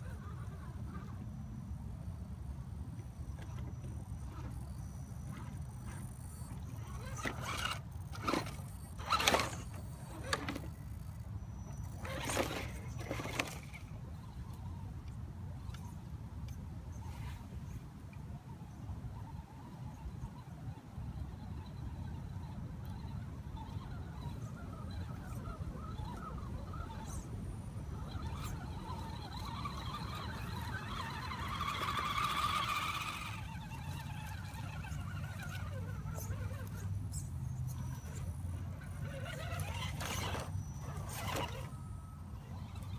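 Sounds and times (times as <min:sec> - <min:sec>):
toy car motor whine: 0:00.0 - 0:15.0, 0:18.5 - 0:42.9
low steady rumble: 0:00.0 - 0:42.9.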